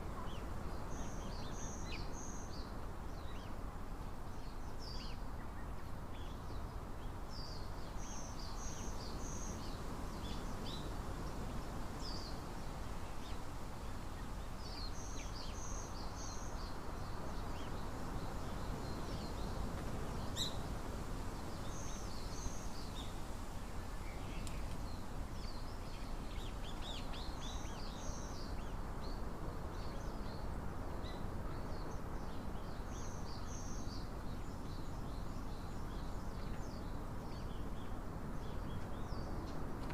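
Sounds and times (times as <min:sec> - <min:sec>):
outdoor background hiss: 0:00.0 - 0:39.9
songbirds calling: 0:00.0 - 0:39.9.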